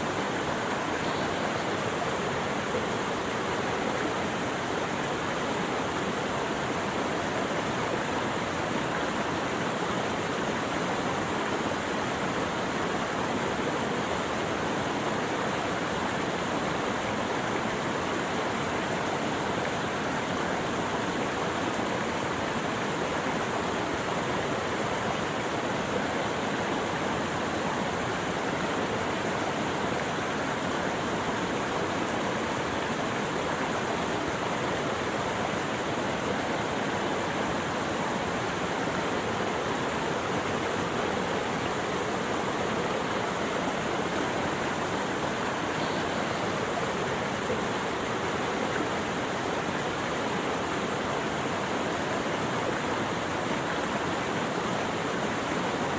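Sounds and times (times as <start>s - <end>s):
running water rushing: 0.0s - 55.9s.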